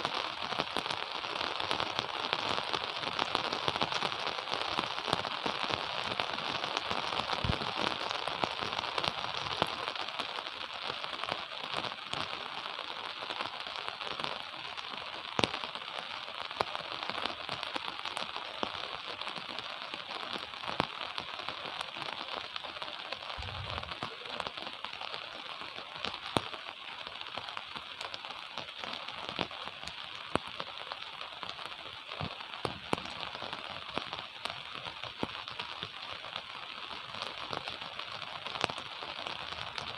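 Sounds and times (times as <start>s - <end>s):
gentle rain: 0.0s - 39.9s
raindrops ticking: 0.0s - 39.9s.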